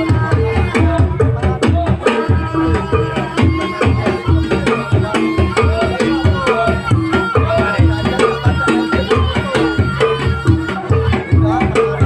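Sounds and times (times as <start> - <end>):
hand drums beating: 0.0 - 12.0
pitch-bending melody: 0.0 - 12.0.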